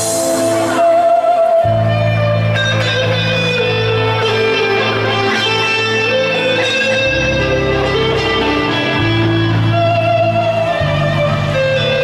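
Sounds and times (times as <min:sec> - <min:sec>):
held bass line: 0:00.0 - 0:12.0
plucked electric string instrument: 0:00.0 - 0:12.0.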